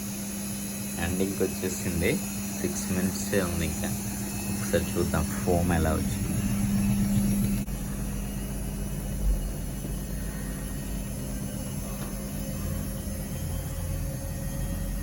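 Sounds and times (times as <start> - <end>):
washing machine motor hum: 0.0 - 15.0
low running rumble: 1.0 - 15.0.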